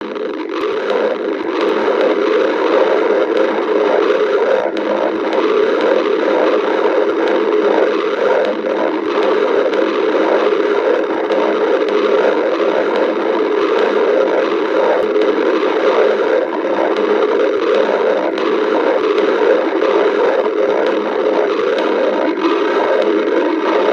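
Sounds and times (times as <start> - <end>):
stomach growling: 0.0 - 23.9.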